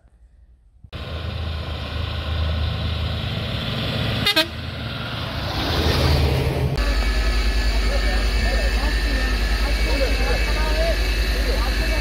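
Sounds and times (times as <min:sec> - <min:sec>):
truck engine running: 0:01.0 - 0:12.0.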